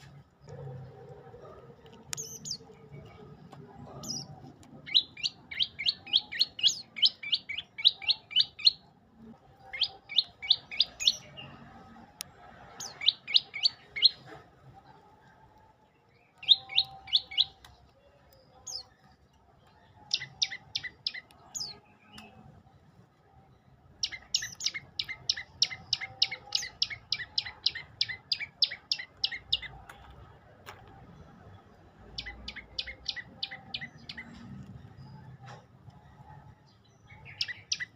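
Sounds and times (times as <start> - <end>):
songbird chirping rapidly: 0.0 - 14.4, 16.0 - 22.5, 23.6 - 30.0, 31.0 - 35.6, 36.3 - 37.9.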